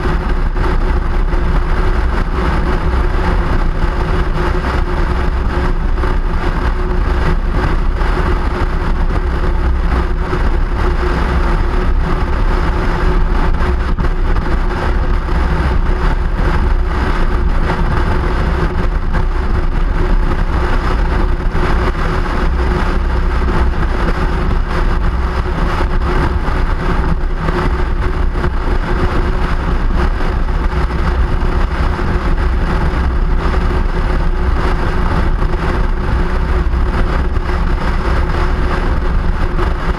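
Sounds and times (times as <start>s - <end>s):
vehicle road rumble and hum: 0.0s - 39.9s.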